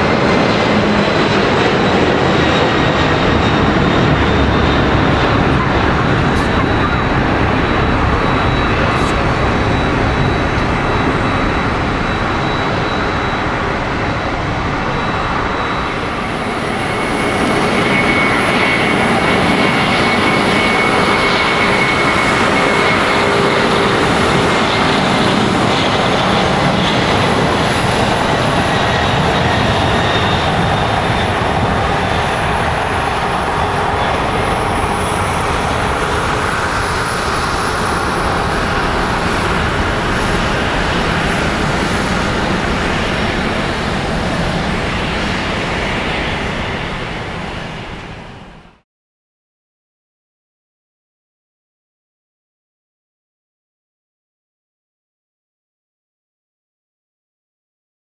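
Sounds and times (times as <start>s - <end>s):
high jet whine: 0.0s - 48.8s
loud jet engine roar: 0.0s - 48.8s.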